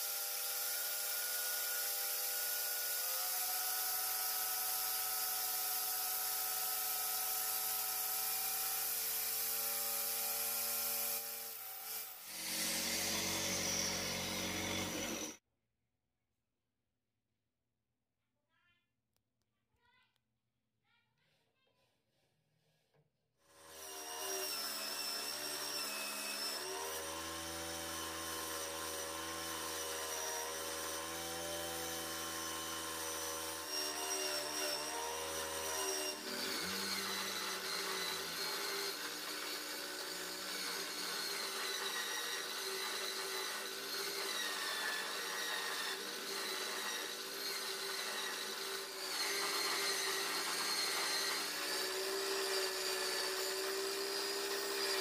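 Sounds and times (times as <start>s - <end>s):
electric drill motor whining: 0.4s - 15.4s, 23.6s - 55.0s.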